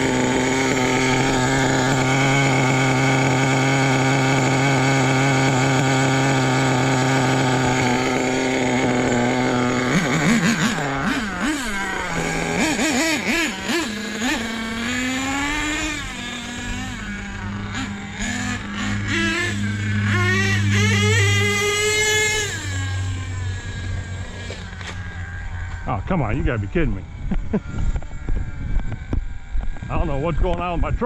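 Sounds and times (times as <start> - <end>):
small nitro engine revving: 0.0 - 30.9.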